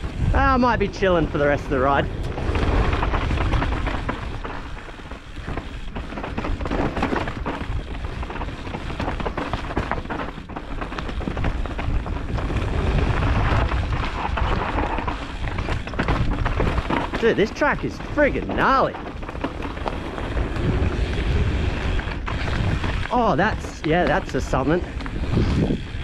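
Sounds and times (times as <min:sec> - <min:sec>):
bike knocks and rattles: 0:00.0 - 0:26.0
tyres skittering over dirt: 0:00.0 - 0:26.0
wind rumble on microphone: 0:00.0 - 0:26.0.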